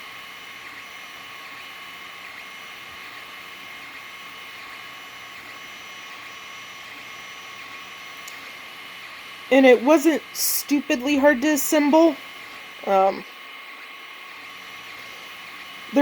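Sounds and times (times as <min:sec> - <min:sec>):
printer motors whining: 0:00.0 - 0:16.0.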